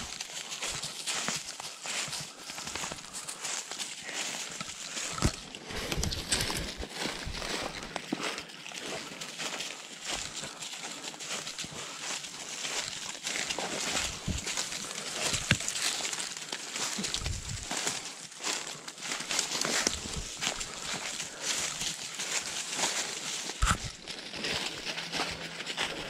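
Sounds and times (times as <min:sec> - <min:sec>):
footsteps crunching through dry leaves: 0:00.0 - 0:26.0.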